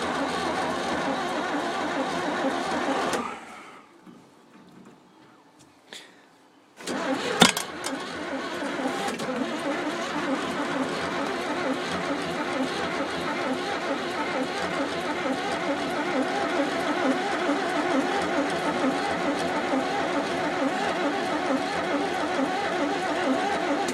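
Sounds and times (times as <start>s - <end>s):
tractor engine starting and running: 0.0s - 4.4s, 6.8s - 23.9s.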